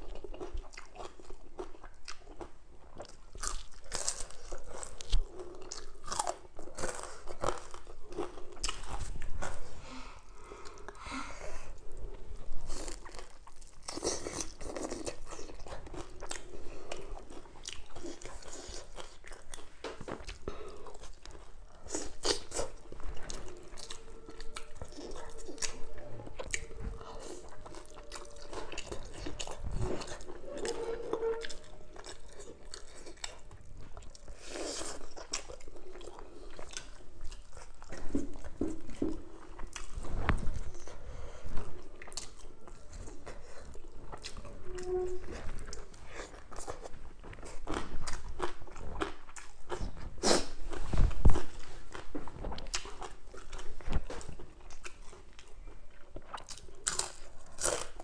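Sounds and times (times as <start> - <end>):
person chewing crunchy food: 0.0 - 11.0, 11.6 - 58.0.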